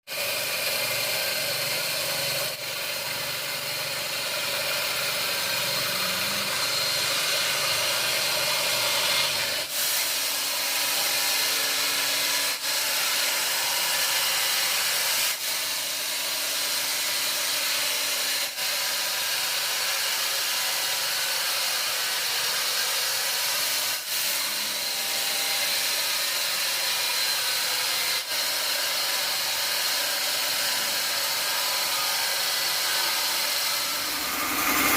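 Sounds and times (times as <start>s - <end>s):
sawmill saw cutting wood: 0.1s - 34.9s.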